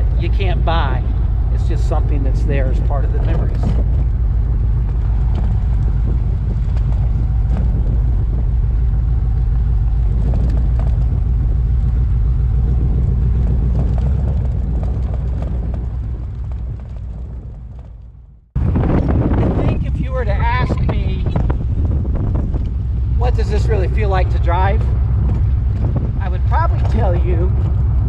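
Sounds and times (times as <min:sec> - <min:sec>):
engine deep rumble: 0:00.0 - 0:28.0.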